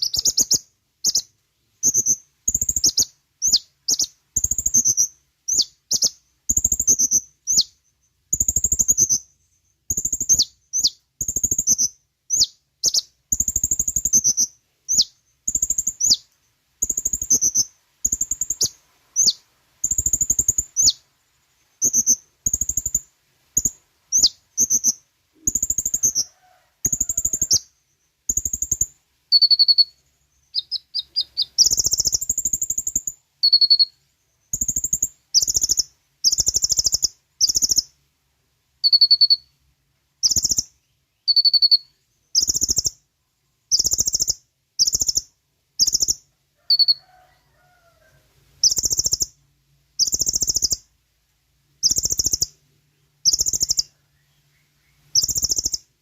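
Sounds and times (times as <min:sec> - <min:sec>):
sunbird high thin chirps: 0:00.0 - 0:21.0, 0:21.6 - 0:38.0, 0:38.8 - 0:39.6, 0:40.2 - 0:43.1, 0:43.7 - 0:47.1, 0:48.6 - 0:49.4, 0:50.0 - 0:50.9, 0:51.8 - 0:52.6, 0:53.2 - 0:56.0.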